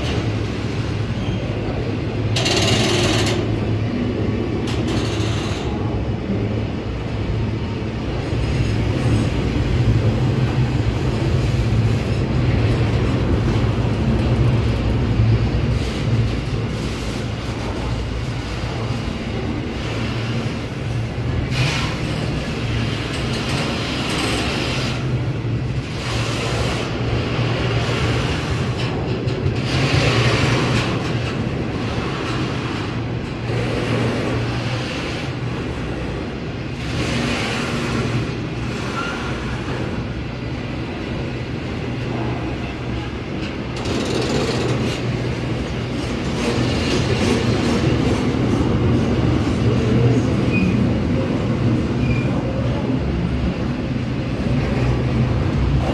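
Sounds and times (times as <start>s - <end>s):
freight train wagons rolling past: 0.0s - 55.9s
steel wheels on rail: 0.0s - 55.9s.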